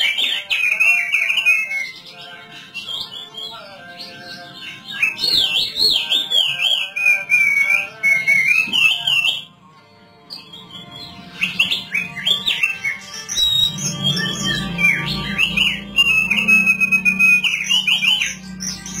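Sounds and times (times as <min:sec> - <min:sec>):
bird singing warbling song: 0:00.0 - 0:19.0.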